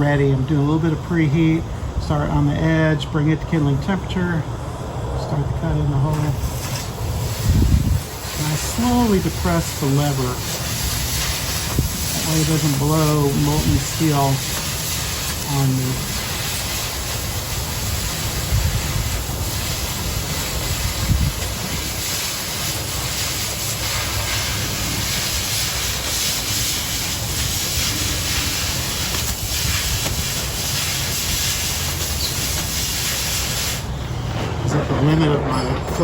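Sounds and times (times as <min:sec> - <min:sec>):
cutting torch hissing: 0:05.6 - 0:36.0.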